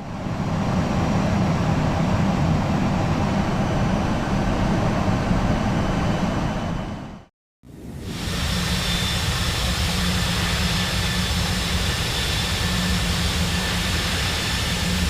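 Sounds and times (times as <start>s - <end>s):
aircraft engine and airflow rumble: 0.0s - 15.0s.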